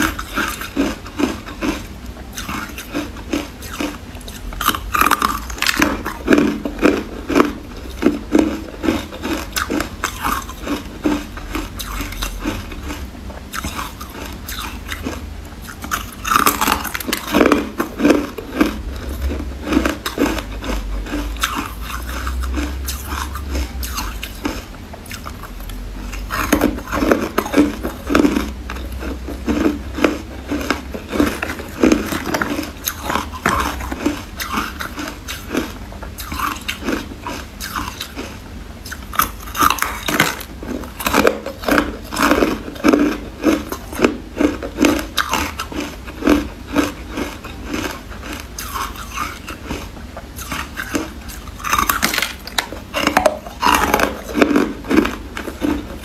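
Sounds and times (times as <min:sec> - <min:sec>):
person crunching ice cubes: 0:00.0 - 0:56.0.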